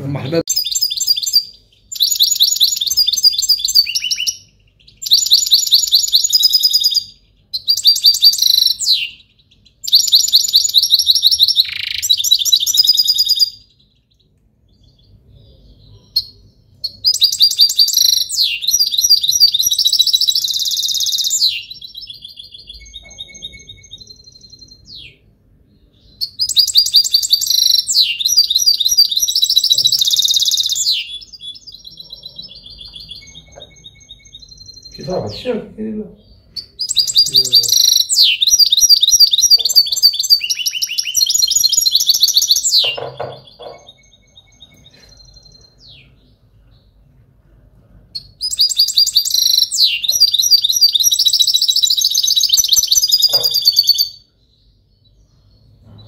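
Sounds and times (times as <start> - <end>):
finch singing: 0.0 - 47.0, 48.2 - 56.0.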